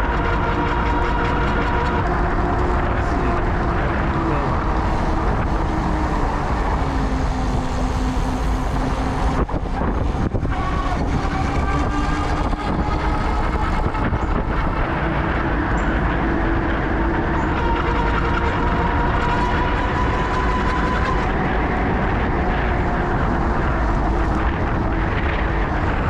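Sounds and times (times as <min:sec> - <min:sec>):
faint whine: 0:00.0 - 0:26.0
wind and road noise: 0:00.0 - 0:26.0.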